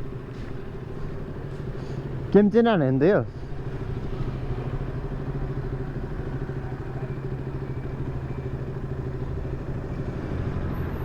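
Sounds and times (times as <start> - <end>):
motorcycle engine idling: 0.0 - 10.2.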